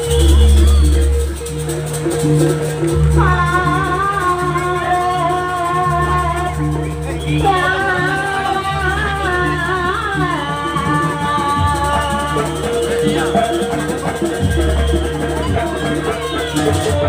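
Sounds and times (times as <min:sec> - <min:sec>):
shaker rattling: 0:00.0 - 0:17.0
wavering melody line: 0:00.0 - 0:17.0.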